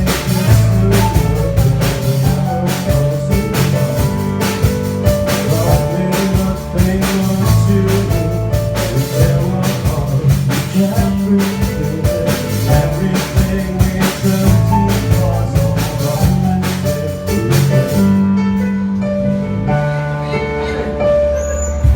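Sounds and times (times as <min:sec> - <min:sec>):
drum kit: 0:00.0 - 0:19.9
bass: 0:00.0 - 0:21.9.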